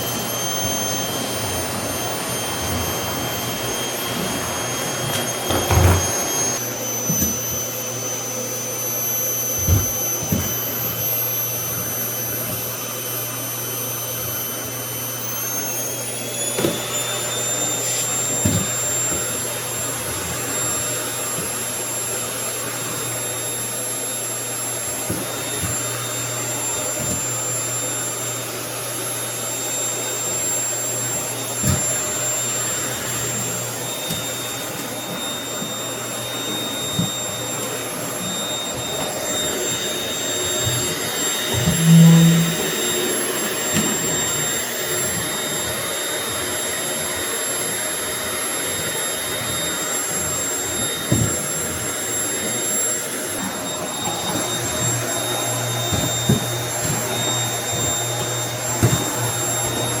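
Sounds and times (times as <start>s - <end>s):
vacuum cleaner running: 0.0s - 60.0s.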